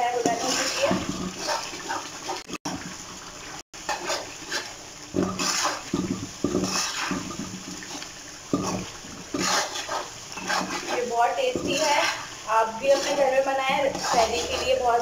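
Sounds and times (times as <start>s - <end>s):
metal spatula scraping wok: 0.0s - 2.5s, 3.8s - 7.9s, 8.5s - 15.0s
gravy sizzling and bubbling: 0.0s - 15.0s.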